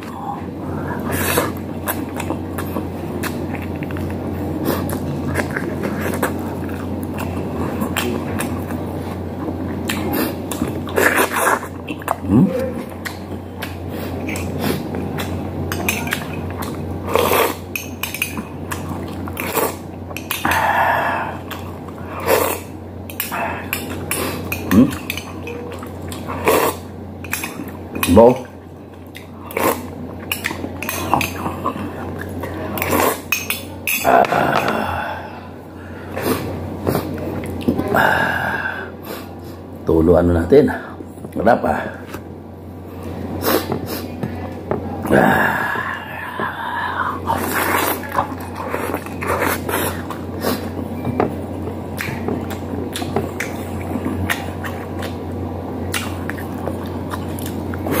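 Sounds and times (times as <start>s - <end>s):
chewing: 0.0s - 34.9s, 35.8s - 38.0s, 43.0s - 58.0s.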